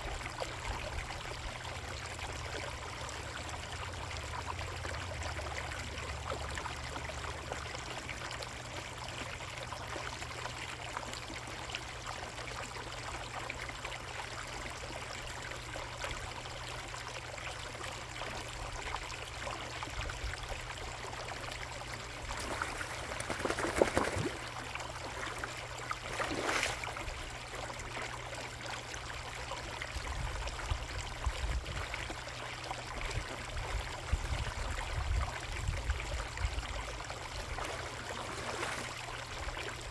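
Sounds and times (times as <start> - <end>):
water trickling in pond: 0.0 - 39.9.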